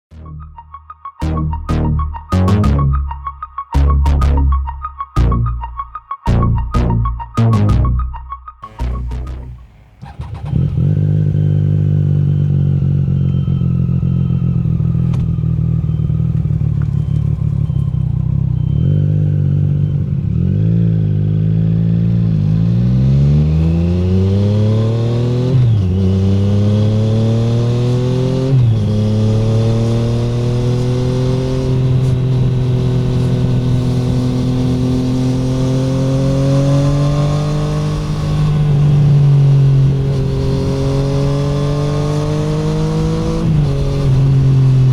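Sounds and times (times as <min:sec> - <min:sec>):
motorcycle engine revving: 0:08.6 - 0:44.9.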